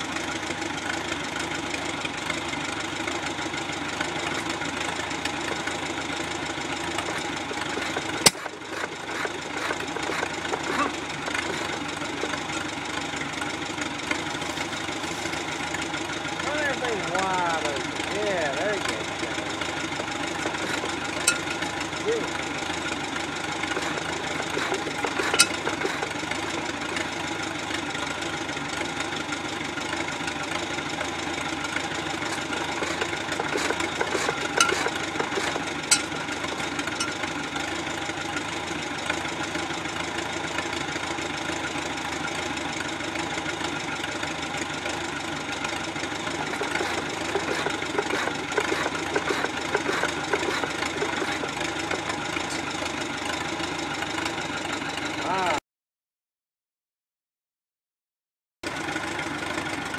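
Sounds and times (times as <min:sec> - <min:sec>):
tractor engine running: 0:00.0 - 0:55.6, 0:58.6 - 0:59.9
hit-and-miss engine turning over: 0:00.4 - 0:27.9, 0:30.6 - 0:41.8, 0:45.2 - 0:54.8.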